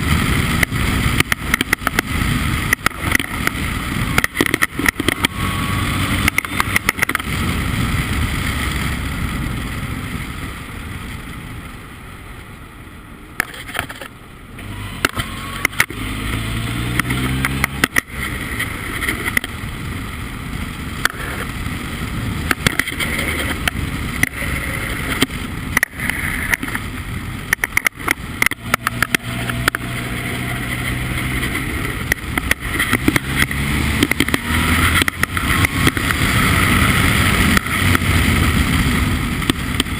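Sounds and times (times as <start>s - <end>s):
engine knocks and crackles: 0.0s - 12.6s, 13.2s - 39.9s
race car engine running hard: 0.0s - 12.6s, 13.2s - 39.9s.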